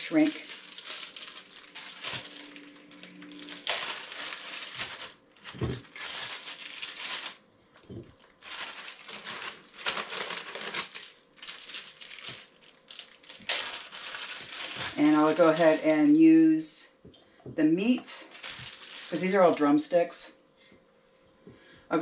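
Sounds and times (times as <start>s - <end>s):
plastic crinkling and rustling: 0.0s - 16.2s, 18.1s - 19.6s.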